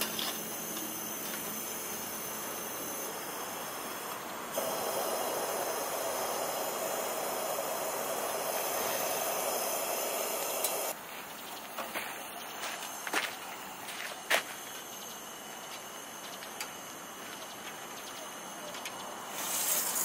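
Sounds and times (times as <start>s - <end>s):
lantern hissing: 0.0s - 20.0s.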